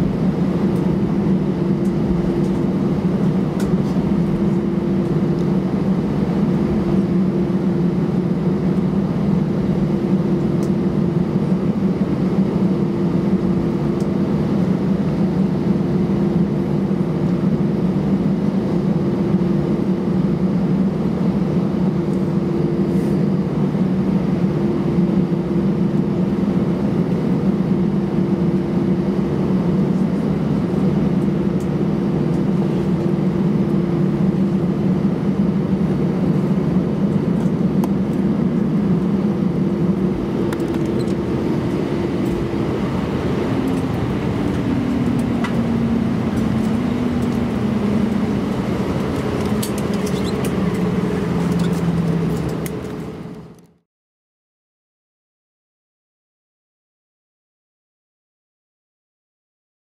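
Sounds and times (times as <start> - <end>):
airplane cabin engine hum: 0.0 - 53.8.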